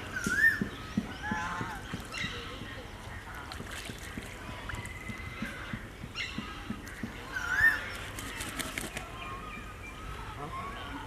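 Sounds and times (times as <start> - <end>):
bird calls: 0.0 - 11.0.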